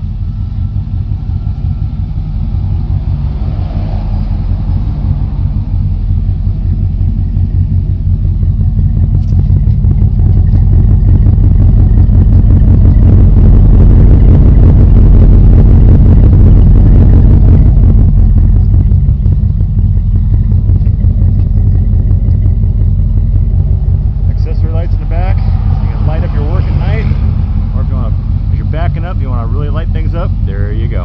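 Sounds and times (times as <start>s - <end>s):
pickup engine running: 0.0s - 31.0s.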